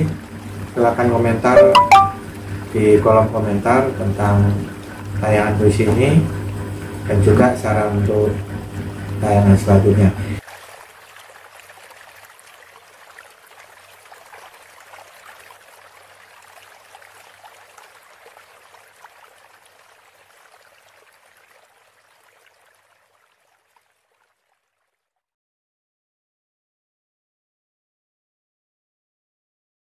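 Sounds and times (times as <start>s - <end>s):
trickling water: 0.0s - 25.2s.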